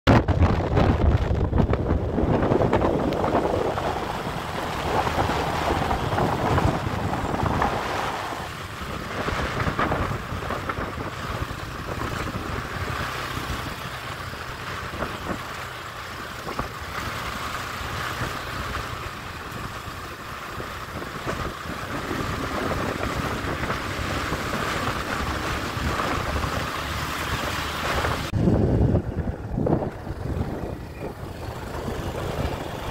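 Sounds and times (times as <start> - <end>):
wind buffeting microphone: 0.1 - 32.9
motorcycle engine running: 0.2 - 32.9.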